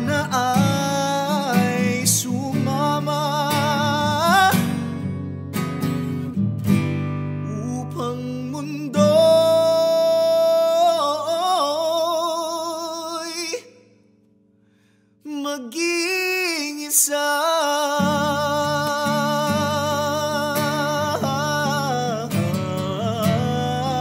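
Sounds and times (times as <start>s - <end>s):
man singing: 0.0s - 5.1s, 7.4s - 13.9s, 15.2s - 24.0s
acoustic guitar: 0.0s - 24.0s.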